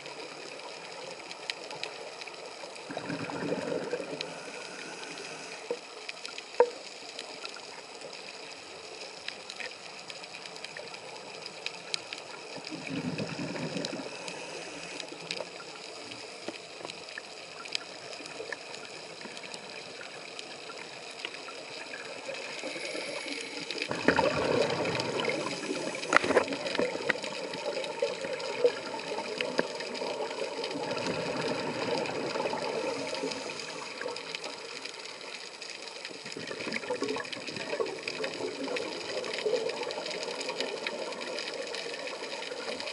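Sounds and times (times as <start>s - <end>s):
steady hiss: 0.0s - 42.9s
underwater bubbles rushing: 0.0s - 42.9s.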